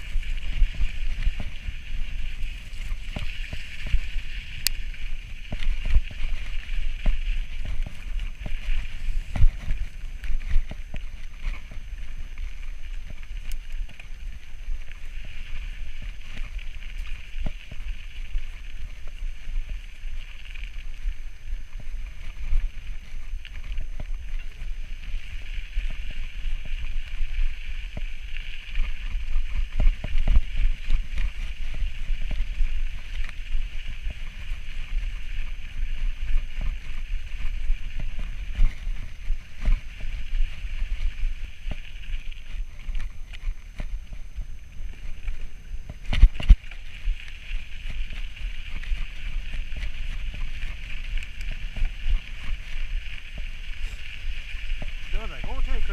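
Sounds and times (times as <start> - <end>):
bike tyres on gravel: 0.0 - 55.9
wind rumbling on microphone: 0.0 - 55.9.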